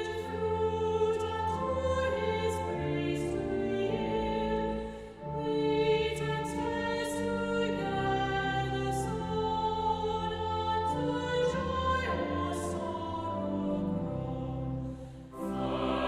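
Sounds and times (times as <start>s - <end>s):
choir singing long notes: 0.0s - 16.0s.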